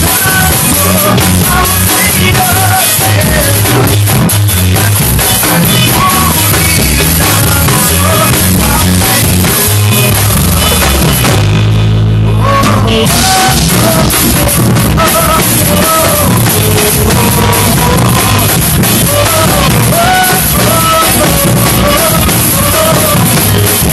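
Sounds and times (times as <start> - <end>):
drum kit playing: 0.0 - 23.9
rock-style gospel song with band: 0.0 - 23.9.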